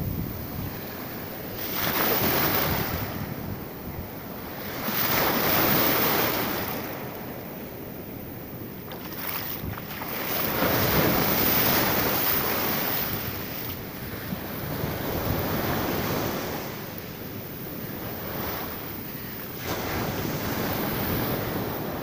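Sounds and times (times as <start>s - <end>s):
small waves washing up sand: 0.0s - 22.0s.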